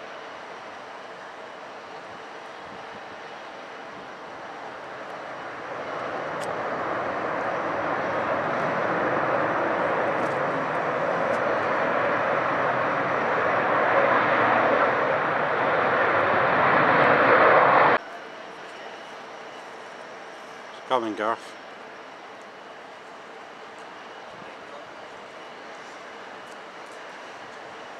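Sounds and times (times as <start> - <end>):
airliner engines: 0.0 - 27.9.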